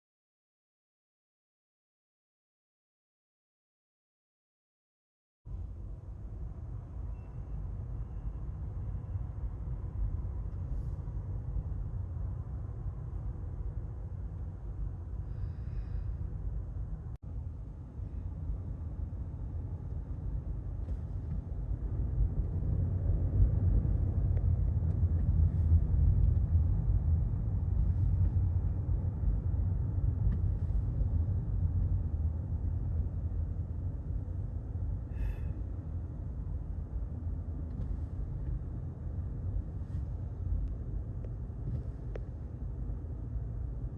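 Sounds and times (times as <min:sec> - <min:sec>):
car rumbling in traffic: 0:05.5 - 0:43.9.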